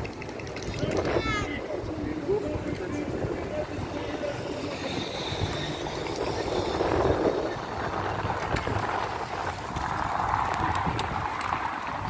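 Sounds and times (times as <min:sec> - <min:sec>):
pushchair wheels on cobblestones: 0:00.0 - 0:12.0.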